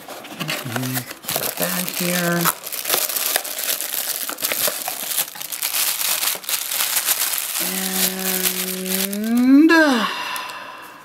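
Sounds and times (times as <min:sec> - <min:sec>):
plastic bag crinkling: 0:00.1 - 0:09.7.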